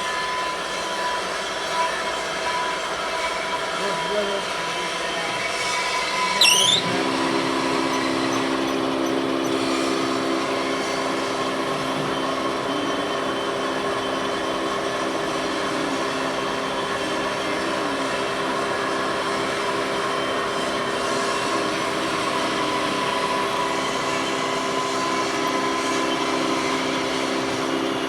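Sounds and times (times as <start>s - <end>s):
steady humming tones: 0.1s - 28.0s
machine humming: 2.8s - 28.0s
high rising squeal: 4.9s - 28.0s.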